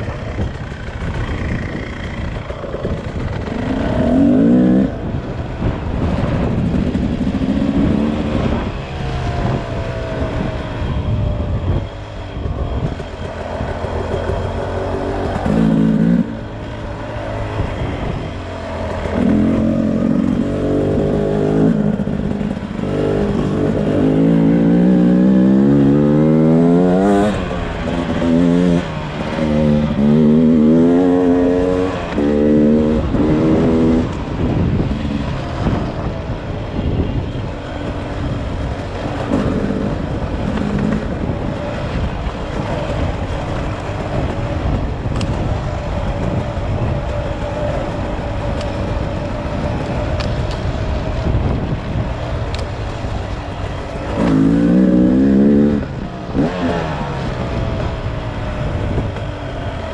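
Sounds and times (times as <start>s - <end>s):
two-stroke engine revving: 0.0s - 10.4s, 12.9s - 45.4s, 53.2s - 59.9s.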